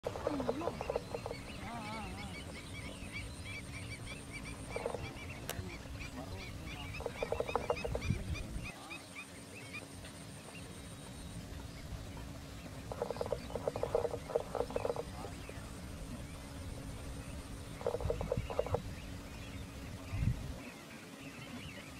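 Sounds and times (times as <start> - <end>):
low wind rumble: 0.0 - 8.9, 10.3 - 20.7
high waterfowl chirps: 0.0 - 9.9, 12.2 - 20.3
low pulsed waterfowl calls: 0.0 - 21.9.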